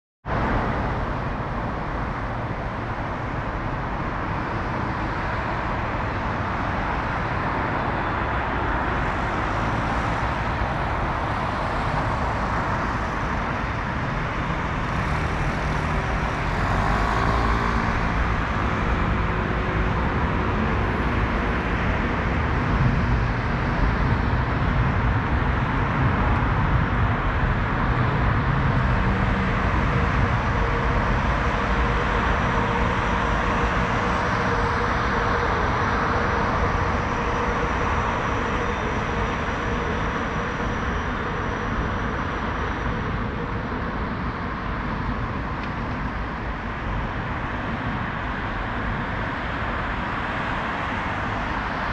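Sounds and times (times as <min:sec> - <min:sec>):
road traffic: 0:00.2 - 0:51.9
train on elevated track: 0:00.2 - 0:51.9.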